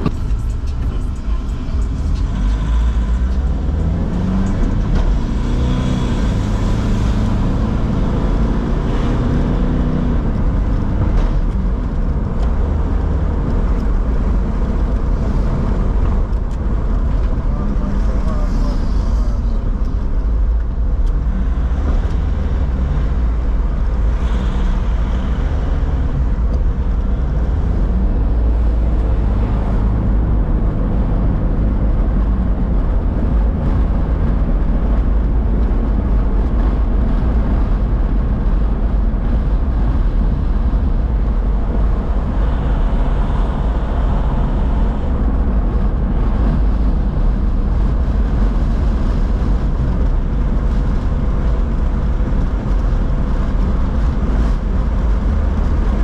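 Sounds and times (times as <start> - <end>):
city street rumble: 0.0 - 56.0.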